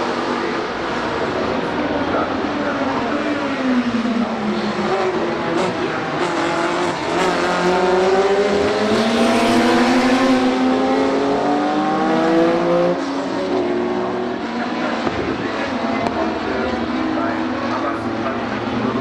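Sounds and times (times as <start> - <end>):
racing car engines accelerating: 0.0 - 19.0.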